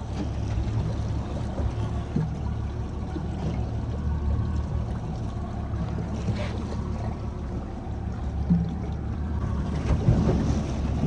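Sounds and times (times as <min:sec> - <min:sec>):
outboard motor rumbling: 0:00.0 - 0:11.0
water washing along hull: 0:00.0 - 0:11.0.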